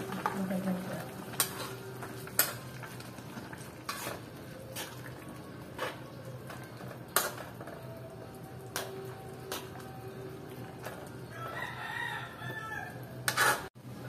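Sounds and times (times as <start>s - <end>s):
stew simmering: 0.0s - 12.4s.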